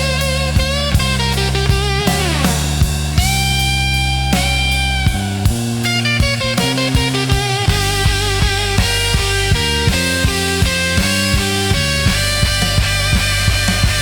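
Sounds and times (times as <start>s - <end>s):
lead guitar bent notes: 0.0s - 14.0s
steady drum beat: 0.0s - 14.0s
sustained bass: 0.0s - 14.0s.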